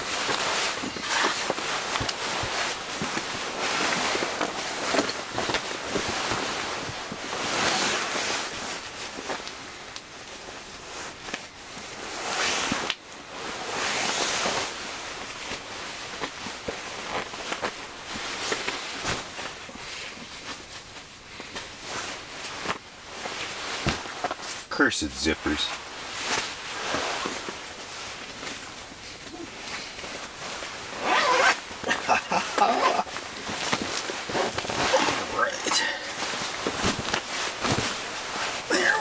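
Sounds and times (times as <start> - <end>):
sleeping bag rustling: 0.0 - 24.7, 25.7 - 39.0.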